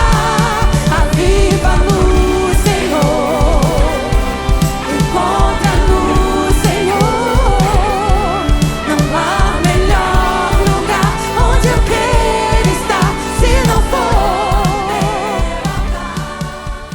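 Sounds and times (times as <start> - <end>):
drum and bass beat: 0.0 - 16.9
woman singing with vibrato: 0.0 - 16.9.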